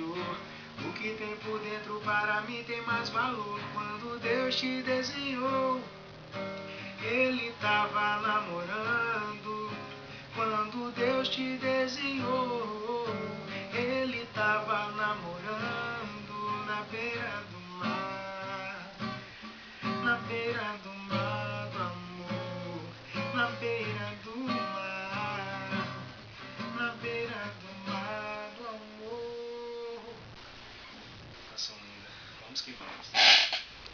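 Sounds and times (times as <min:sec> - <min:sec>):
acoustic guitar strumming: 0:00.0 - 0:30.3.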